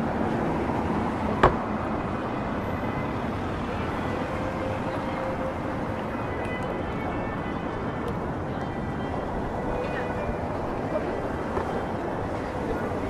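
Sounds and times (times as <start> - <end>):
pedestrian bustle: 0.0 - 13.0
traffic: 0.0 - 13.0.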